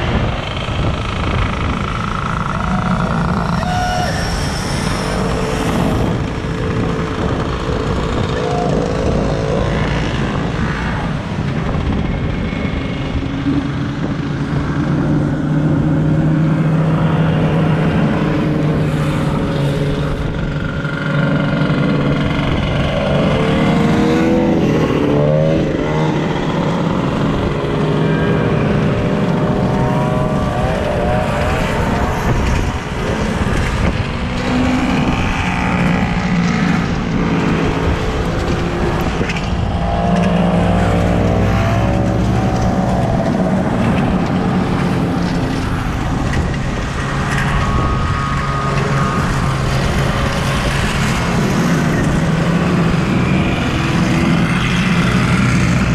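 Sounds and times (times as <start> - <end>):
snowmobile engines driving past: 0.0 - 55.9.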